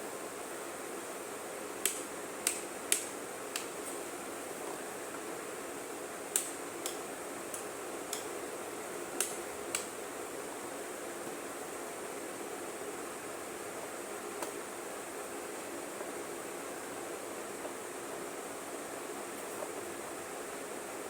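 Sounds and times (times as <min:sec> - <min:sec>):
table fan running: 0:00.0 - 0:21.0.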